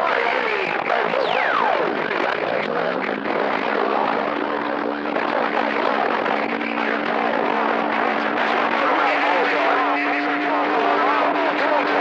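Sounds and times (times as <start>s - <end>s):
radio static hiss and crackle: 0.0s - 12.0s
steady low radio tones: 0.0s - 12.0s.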